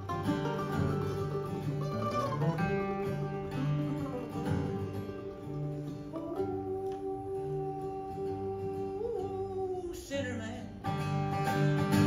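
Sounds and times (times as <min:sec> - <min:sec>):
mandolin picking: 0:00.0 - 0:12.0
strummed acoustic guitar: 0:00.0 - 0:12.0.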